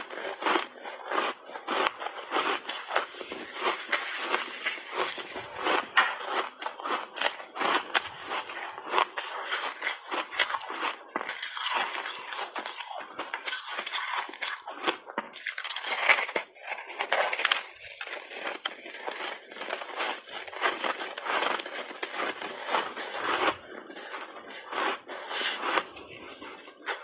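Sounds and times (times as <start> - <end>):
ice crunching between teeth: 0.0 - 27.0.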